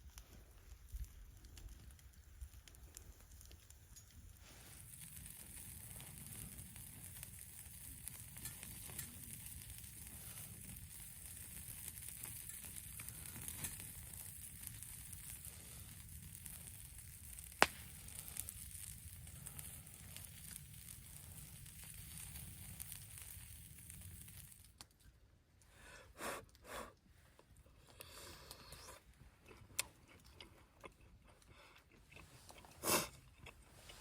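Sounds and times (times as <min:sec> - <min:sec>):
food sizzling over campfire: 0:00.0 - 0:25.1, 0:27.8 - 0:30.0.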